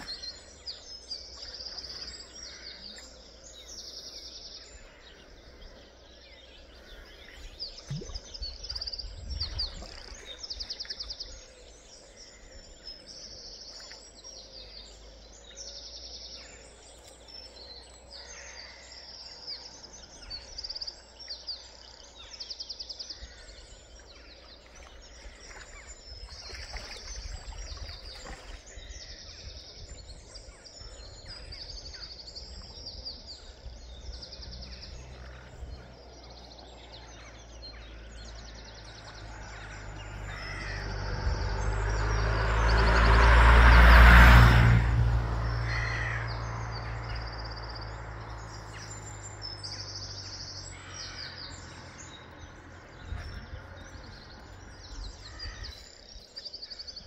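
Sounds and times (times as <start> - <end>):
small birds trilling: 0.0 - 43.1, 45.4 - 57.0.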